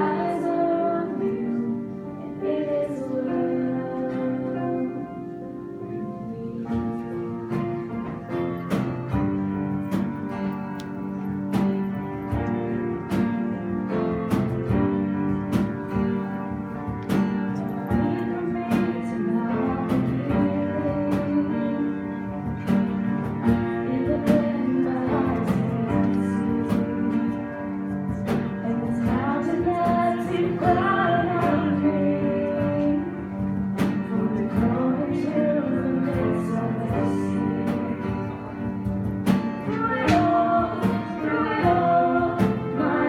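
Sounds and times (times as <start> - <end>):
acoustic guitar strumming: 5.2 - 43.0.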